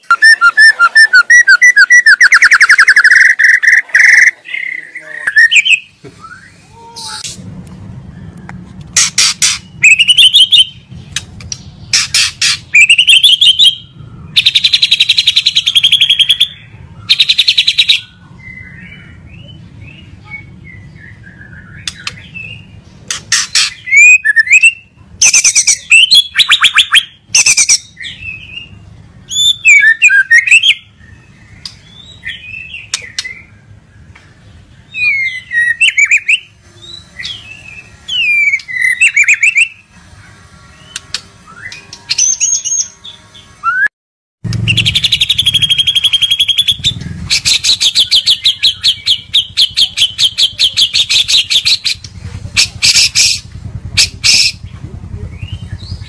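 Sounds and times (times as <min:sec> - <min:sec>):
songbird singing: 0:00.0 - 0:43.9, 0:44.5 - 0:56.0.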